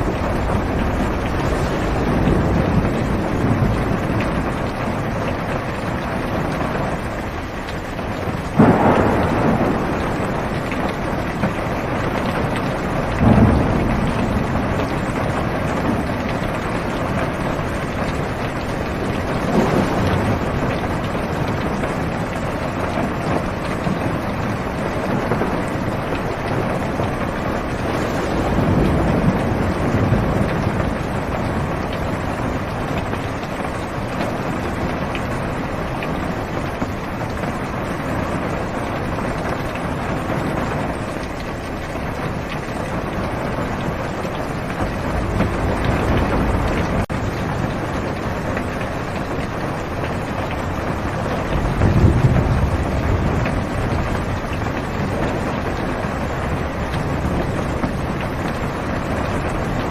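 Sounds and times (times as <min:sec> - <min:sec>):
heavy rain on car roof: 0:00.0 - 0:59.9
thunder rumbling: 0:00.0 - 0:59.9.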